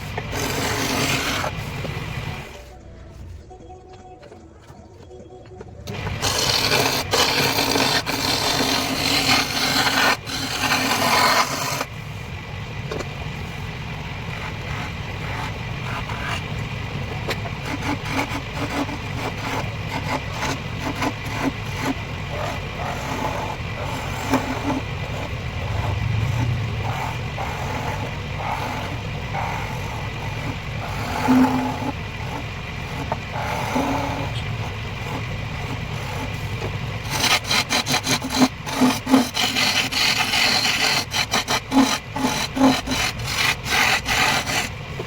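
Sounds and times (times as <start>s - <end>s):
turning tool cutting wood: 0.0s - 2.6s, 5.9s - 12.0s, 14.1s - 45.0s
wood lathe humming: 0.0s - 2.6s, 5.9s - 45.0s.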